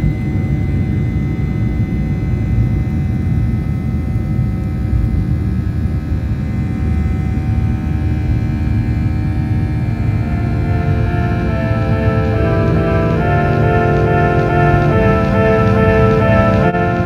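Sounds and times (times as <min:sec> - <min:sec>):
faint engine whining: 0:00.0 - 0:17.0
jet engines rumbling in cabin: 0:00.0 - 0:17.0.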